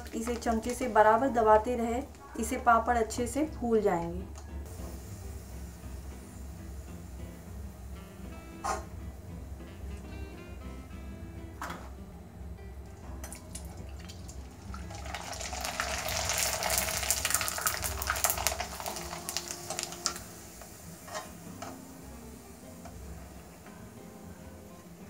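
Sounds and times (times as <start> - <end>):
oil crackling sizzle: 0.0 - 25.0.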